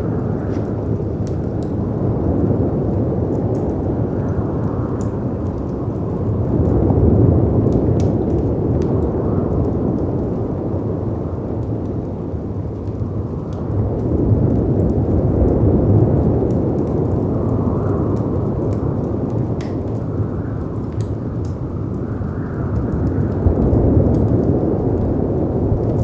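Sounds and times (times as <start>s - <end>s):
howling wind: 0.0s - 26.0s
wood fire crackling: 0.0s - 26.0s.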